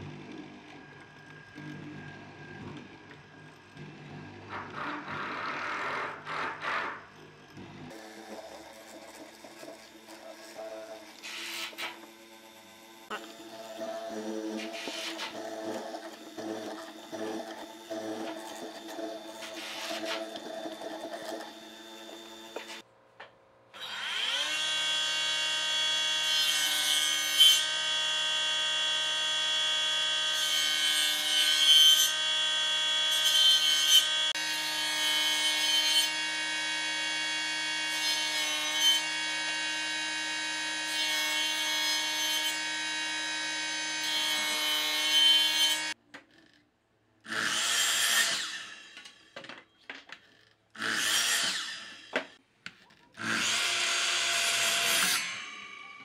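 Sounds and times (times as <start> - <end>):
table saw whining: 0.0 - 22.9, 23.8 - 46.0, 47.3 - 52.4, 53.1 - 56.0
harsh saw cut: 4.3 - 7.1, 7.9 - 22.8, 23.8 - 46.0, 47.3 - 49.2, 50.8 - 52.4, 53.2 - 56.0.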